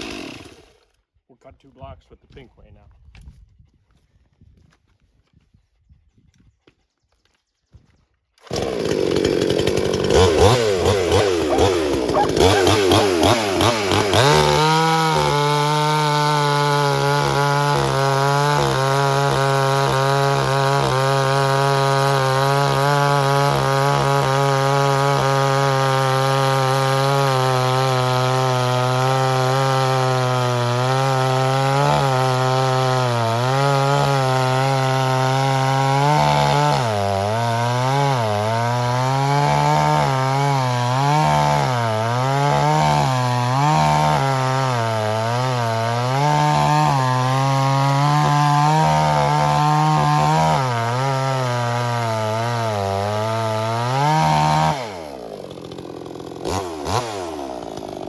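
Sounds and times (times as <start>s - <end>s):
chainsaw cutting through a log: 0.0s - 1.0s, 8.4s - 58.0s.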